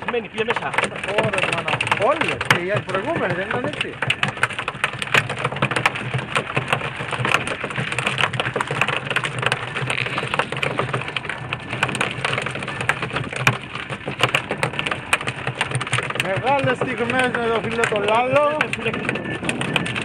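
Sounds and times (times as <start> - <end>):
outboard motor running: 0.0 - 20.0
water splashing against boat hull: 0.0 - 20.0.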